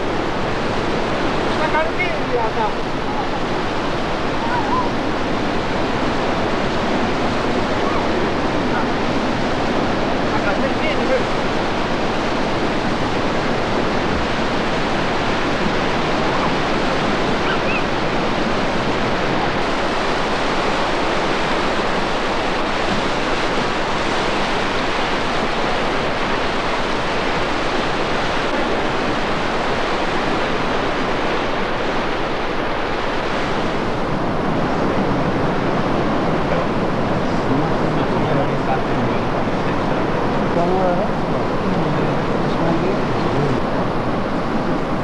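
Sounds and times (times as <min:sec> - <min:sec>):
water rushing over rocks: 0:00.0 - 0:45.0.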